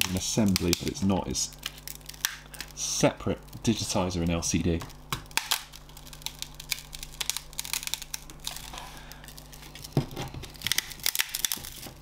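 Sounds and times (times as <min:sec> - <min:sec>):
screen adhesive crackling and tearing: 0:00.0 - 0:02.9, 0:04.2 - 0:12.0.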